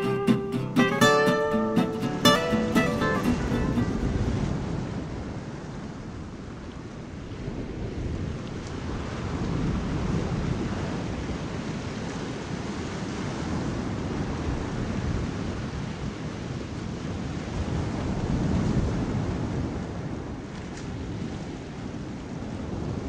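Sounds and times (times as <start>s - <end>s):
ocean waves and surf: 0.0s - 23.0s.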